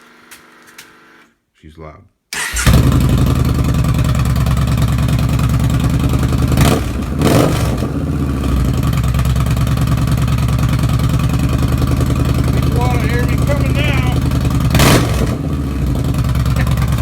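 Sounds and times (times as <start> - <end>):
motorcycle engine revving and idling: 2.6 - 17.0.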